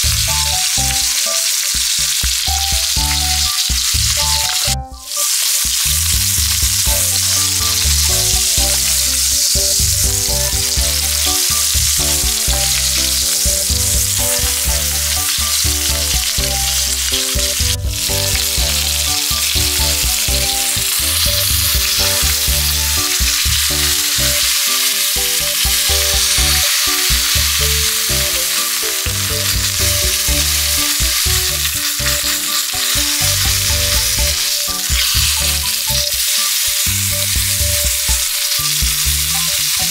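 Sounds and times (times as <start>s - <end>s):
steak sizzling in a frying pan: 0.0s - 39.9s.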